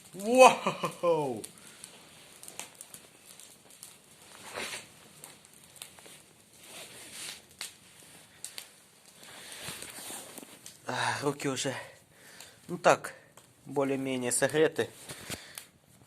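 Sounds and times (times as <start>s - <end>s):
fire snapping loudly: 0.0s - 15.8s
brushwood fire crackling: 0.0s - 16.0s.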